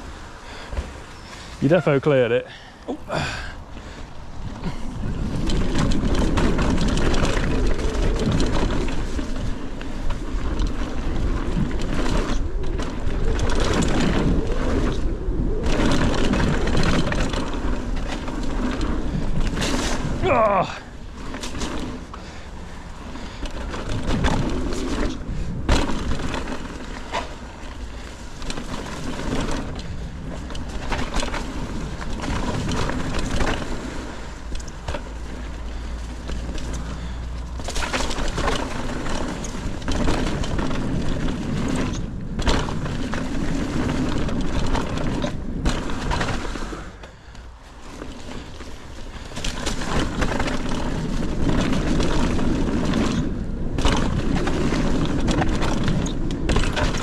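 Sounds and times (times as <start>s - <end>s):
tyres crunching on dirt: 0.0s - 15.0s, 15.6s - 57.0s
bike knocking and rattling: 0.0s - 57.0s.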